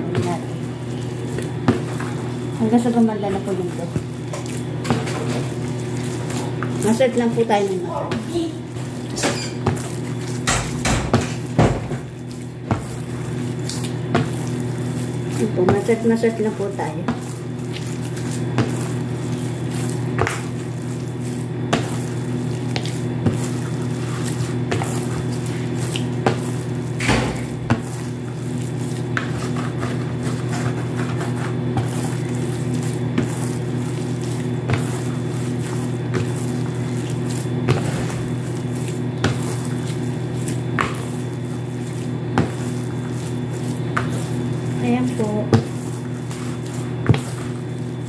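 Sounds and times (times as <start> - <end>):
hands kneading dough: 0.0 - 48.0
steady low hum: 0.0 - 48.0.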